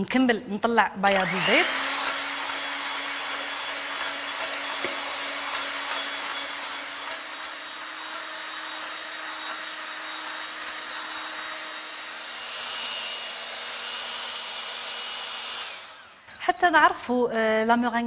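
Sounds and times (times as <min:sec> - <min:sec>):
electric mixer motor whining: 0:01.1 - 0:16.6.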